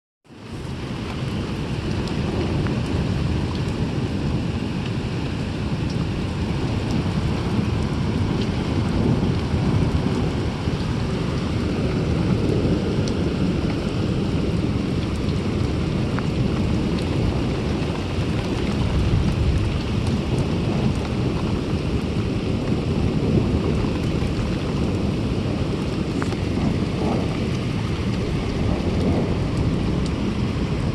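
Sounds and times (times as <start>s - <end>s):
heavy rain: 0.3s - 30.9s
low rumble of thunder: 0.3s - 30.9s
rain drops ticking: 0.3s - 30.9s.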